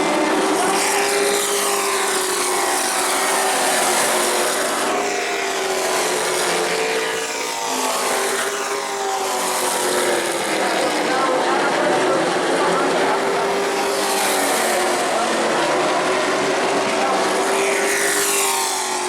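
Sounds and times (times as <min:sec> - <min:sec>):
race truck engines passing: 0:00.0 - 0:19.0.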